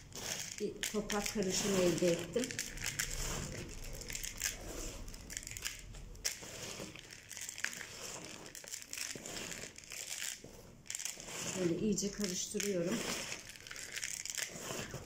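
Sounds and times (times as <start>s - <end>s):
gritty potting mix crunching: 0.0s - 15.0s.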